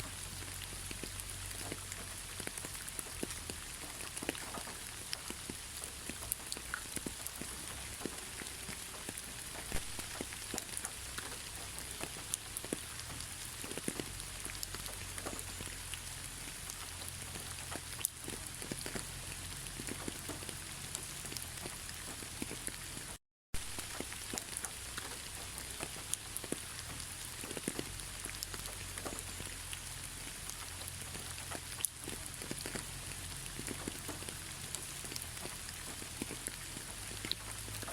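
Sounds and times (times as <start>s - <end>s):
hiss of downpour: 0.0s - 37.9s
raindrops ticking: 0.0s - 37.9s.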